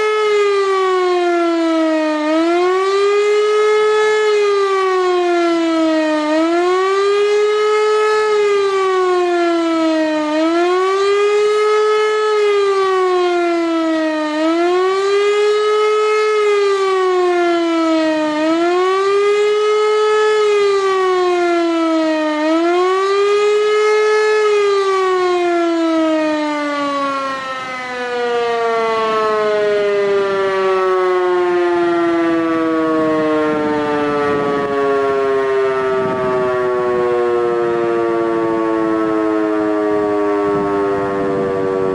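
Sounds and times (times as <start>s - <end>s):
electric motor siren howling: 0.0s - 41.9s.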